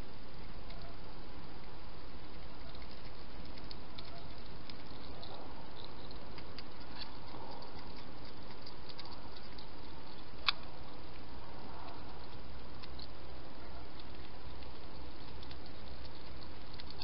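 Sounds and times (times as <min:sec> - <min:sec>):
hedgehog eating clicks: 0:00.2 - 0:17.0.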